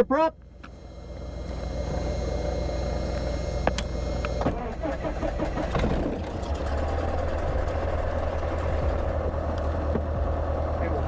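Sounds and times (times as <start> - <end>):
aircraft engine idling: 0.4 - 11.0
starter motor cranking: 0.5 - 11.0.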